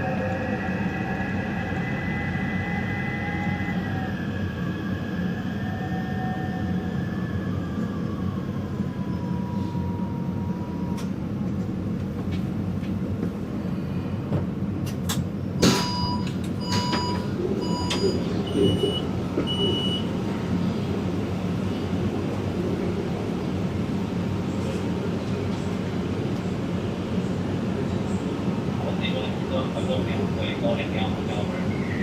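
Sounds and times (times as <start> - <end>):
train low rumble: 0.0 - 32.0.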